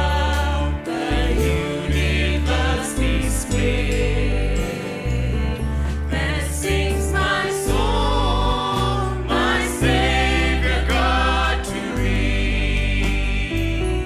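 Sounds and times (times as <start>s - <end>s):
band accompaniment with bass: 0.0s - 14.0s
voices singing together: 0.0s - 14.0s.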